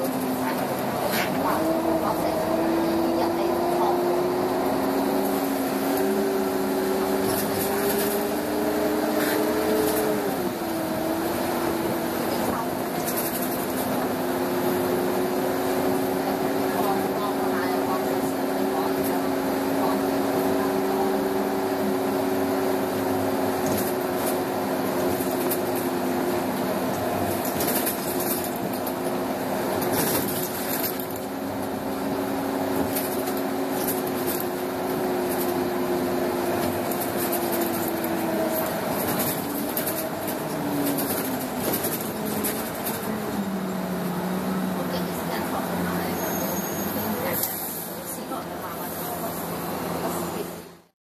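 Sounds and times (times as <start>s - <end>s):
bus interior rattles: 0.0s - 50.9s
bus drivetrain whine: 0.0s - 51.0s.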